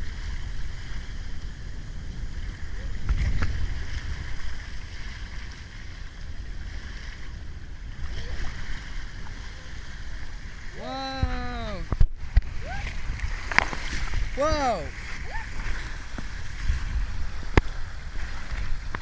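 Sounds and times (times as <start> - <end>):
running water: 0.0 - 19.0
wind buffeting microphone: 0.0 - 19.0.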